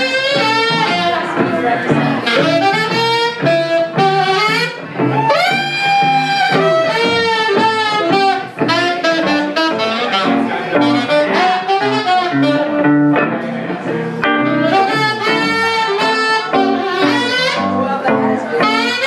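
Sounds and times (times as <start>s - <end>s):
electric guitar accompaniment: 0.0s - 19.0s
saxophone jazz melody: 0.0s - 19.0s.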